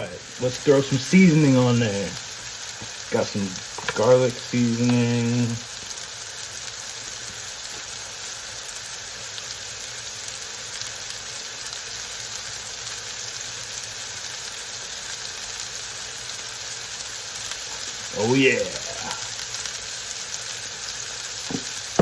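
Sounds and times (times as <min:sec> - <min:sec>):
burger patties sizzling on grill: 0:00.0 - 0:22.0.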